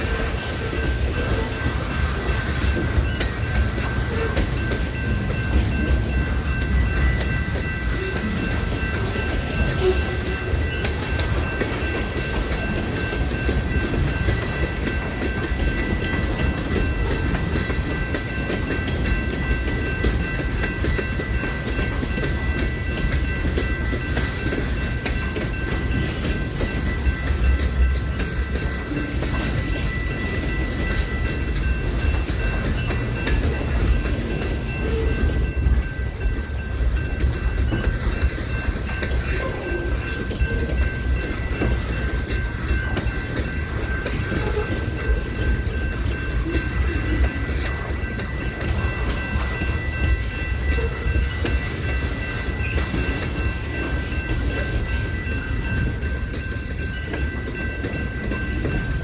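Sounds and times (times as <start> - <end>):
train rumbling on track: 0.0 - 59.0.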